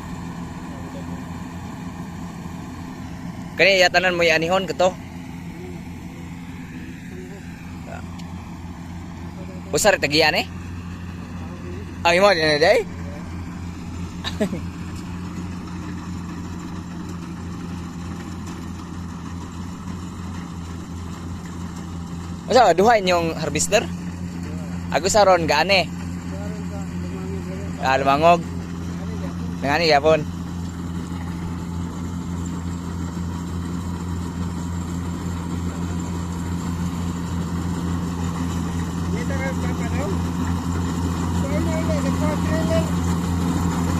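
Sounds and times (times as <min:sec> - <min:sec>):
combine harvester diesel engine: 0:00.0 - 0:43.9.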